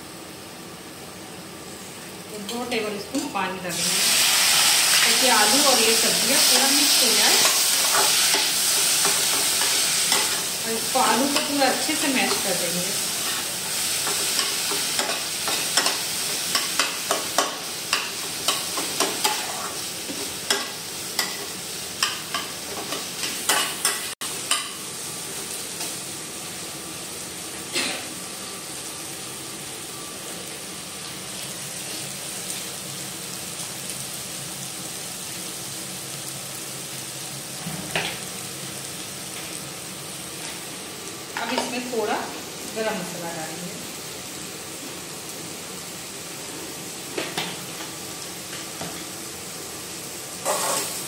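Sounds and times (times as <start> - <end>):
oil sizzling: 0.0 - 51.0.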